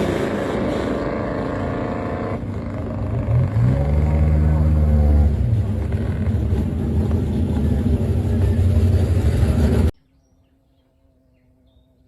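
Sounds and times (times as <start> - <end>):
car engine running loud: 0.0 - 10.0.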